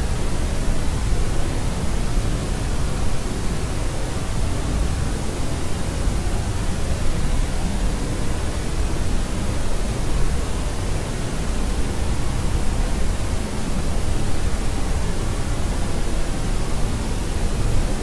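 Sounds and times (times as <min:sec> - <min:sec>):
steady pink noise hiss: 0:00.0 - 0:18.0.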